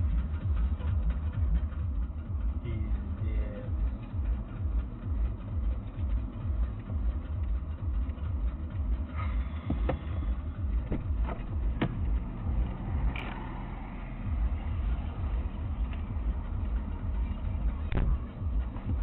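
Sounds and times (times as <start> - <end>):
low pulsing vehicle rumble: 0.0 - 19.0.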